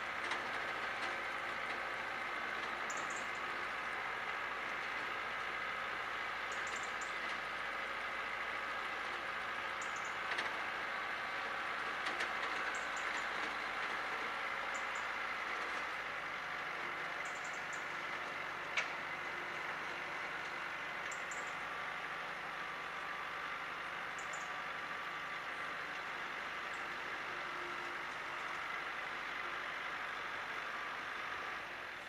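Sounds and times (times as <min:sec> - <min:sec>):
distant tractor engine running: 0:00.0 - 0:32.0.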